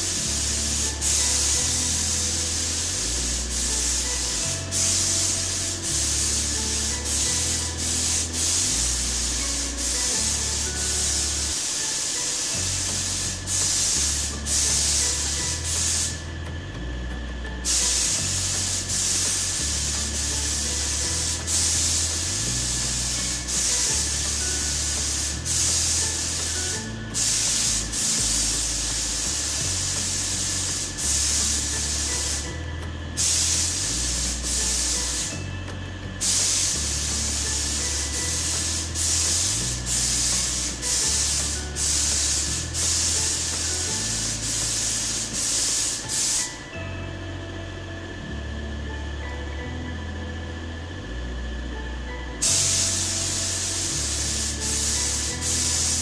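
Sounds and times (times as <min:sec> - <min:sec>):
paint spray gun hissing: 0:00.0 - 0:16.4, 0:17.5 - 0:46.8, 0:52.4 - 0:56.0.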